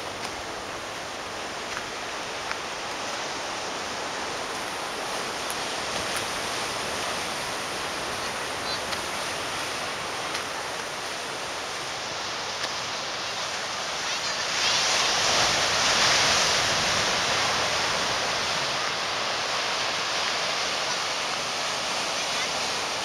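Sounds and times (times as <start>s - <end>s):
surf breaking on rocky shore: 0.0s - 23.0s.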